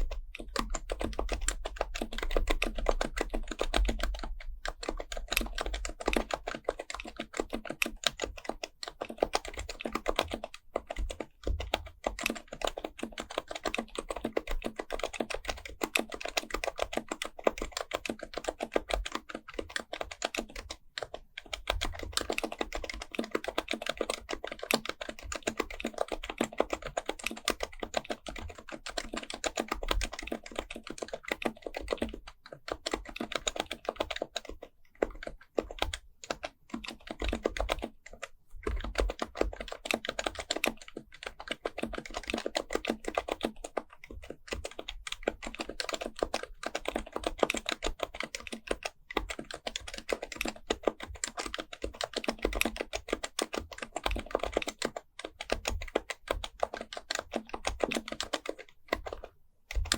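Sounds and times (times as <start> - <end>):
fast keyboard typing: 0.0 - 59.9.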